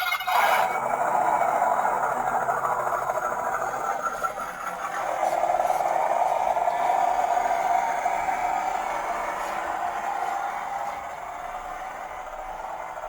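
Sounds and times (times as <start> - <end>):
radio-controlled truck running: 0.0 - 13.0.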